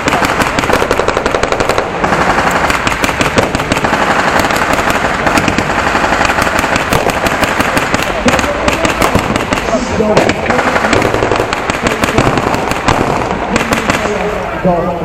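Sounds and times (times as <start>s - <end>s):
machine-gun bursts: 0.0s - 14.2s
single gunshots: 0.0s - 14.4s.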